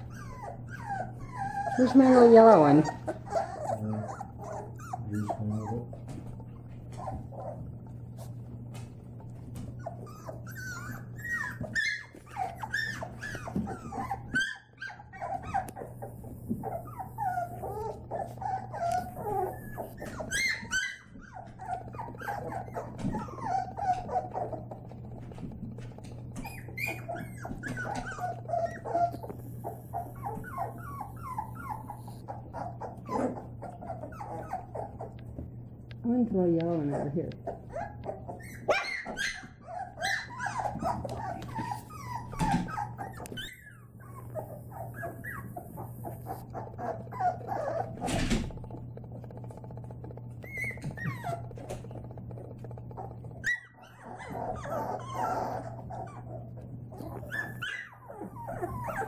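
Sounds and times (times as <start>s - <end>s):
puppies whining and yipping: 0.0s - 36.1s, 36.8s - 59.0s
puppies growling: 0.0s - 59.0s.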